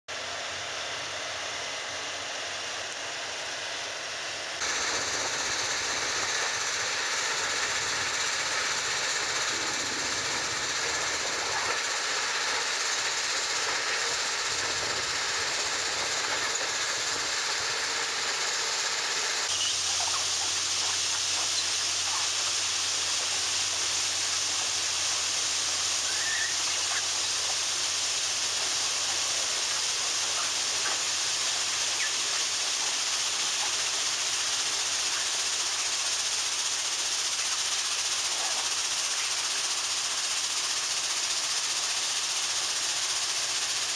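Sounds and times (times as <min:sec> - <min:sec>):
machine hissing and rushing: 0:04.6 - 0:41.1.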